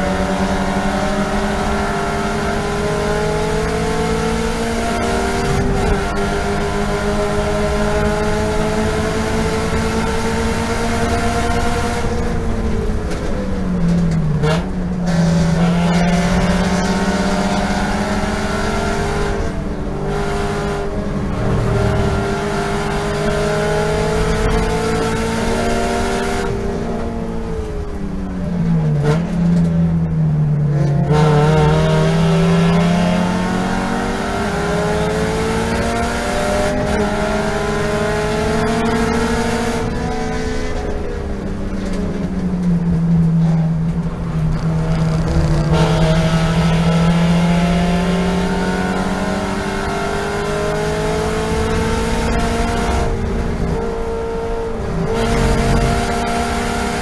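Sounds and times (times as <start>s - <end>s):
car engine revving hard: 0.0s - 13.2s, 14.4s - 27.5s, 30.8s - 42.8s, 43.4s - 57.0s.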